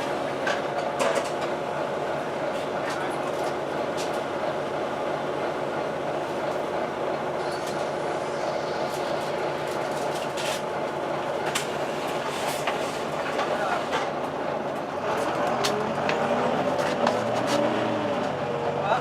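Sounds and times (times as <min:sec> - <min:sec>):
bus cooling fan drone: 0:00.0 - 0:19.0
engine and road noise: 0:00.0 - 0:19.0.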